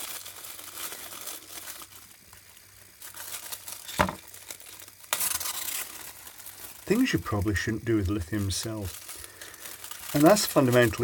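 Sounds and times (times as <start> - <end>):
plastic film and foil crinkling: 0.0 - 11.0
sharp crackle: 0.0 - 11.0.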